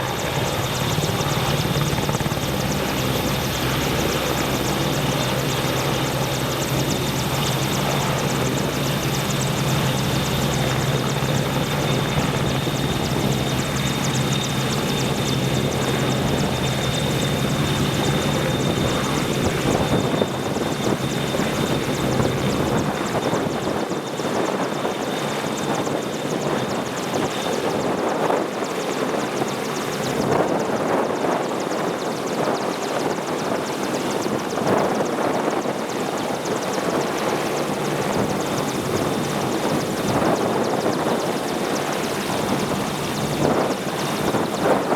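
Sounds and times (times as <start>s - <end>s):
helicopter rotor noise: 0.0s - 44.9s
helicopter turbine whine: 0.0s - 44.9s.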